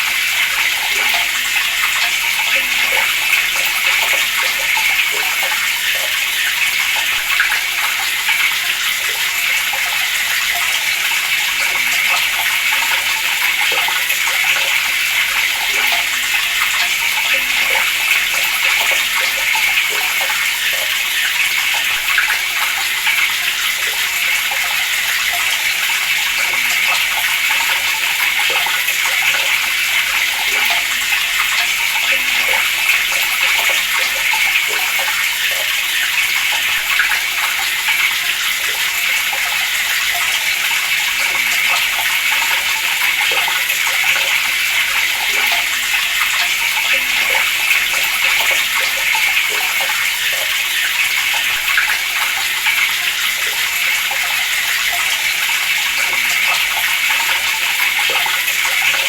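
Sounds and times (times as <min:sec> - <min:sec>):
water running from a tap: 0:00.0 - 0:59.0.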